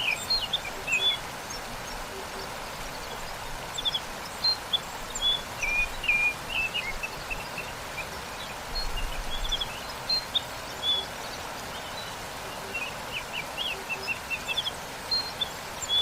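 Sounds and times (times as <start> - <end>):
songbirds chirping: 0.0 - 16.0
waterfall rushing: 0.0 - 16.0.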